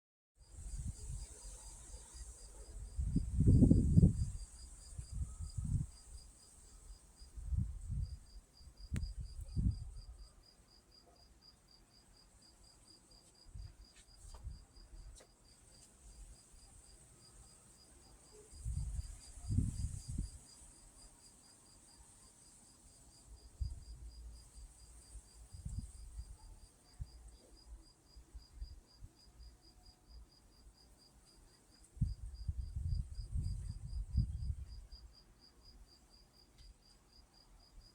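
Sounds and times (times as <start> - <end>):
high insect hiss: 0.4 - 37.9
cricket chirping: 0.5 - 37.9.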